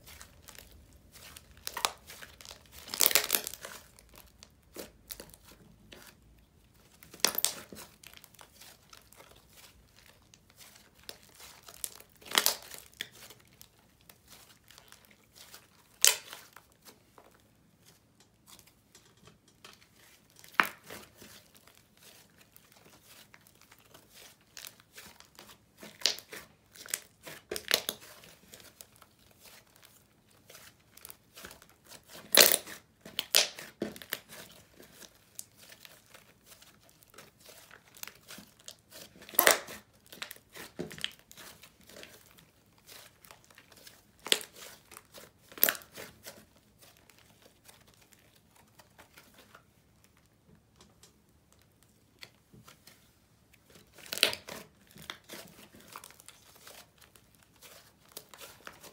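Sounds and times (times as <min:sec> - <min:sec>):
slime squishing with sticky pops: 0:00.0 - 0:18.8, 0:19.8 - 0:52.8, 0:53.4 - 0:58.9.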